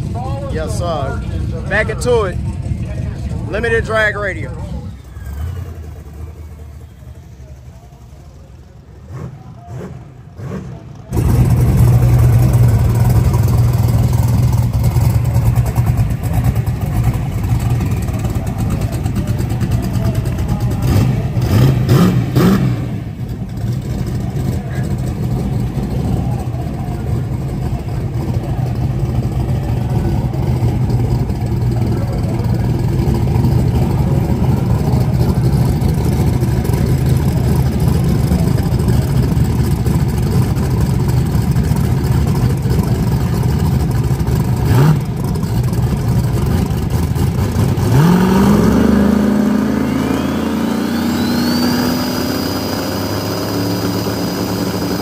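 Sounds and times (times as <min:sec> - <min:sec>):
race car engines idling lumpy: 0:00.0 - 0:55.0
engine held at high revs: 0:08.9 - 0:55.0.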